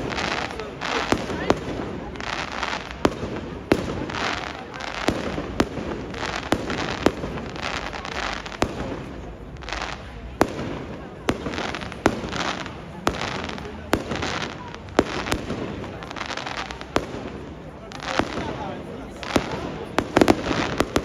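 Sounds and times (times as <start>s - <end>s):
dense firework crackling: 0.0s - 21.0s
firework bangs: 0.0s - 21.0s.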